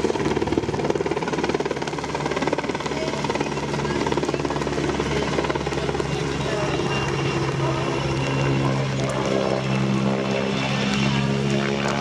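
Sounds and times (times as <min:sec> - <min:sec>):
helicopter rotor chop: 0:00.0 - 0:12.0
helicopter turbines running: 0:00.0 - 0:12.0.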